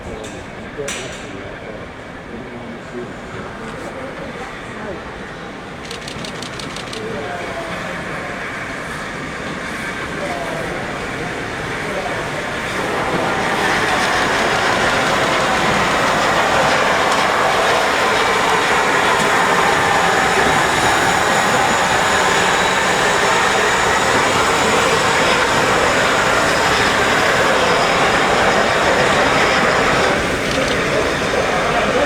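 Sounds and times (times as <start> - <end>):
train at station: 0.0 - 32.0.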